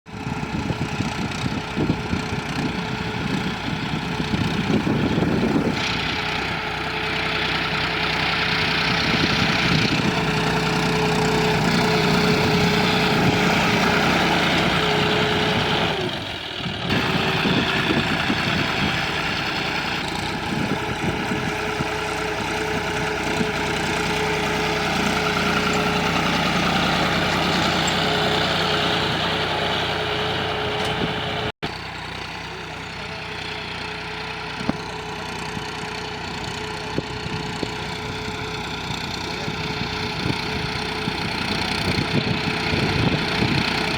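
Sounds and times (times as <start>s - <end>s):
tractor diesel engine running: 0.1s - 43.9s.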